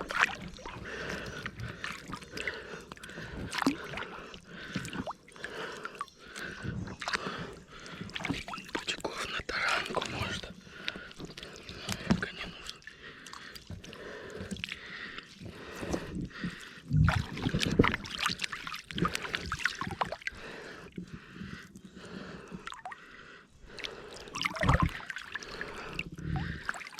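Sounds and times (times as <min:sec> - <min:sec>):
water dripping and splashing: 0:00.0 - 0:21.0, 0:22.6 - 0:23.0, 0:23.7 - 0:26.9.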